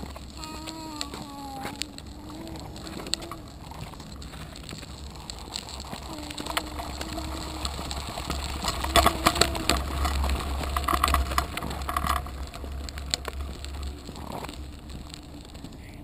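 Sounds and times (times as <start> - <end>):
bicycle rattling and clicking: 0.0 - 16.0
low rumble: 0.0 - 16.0.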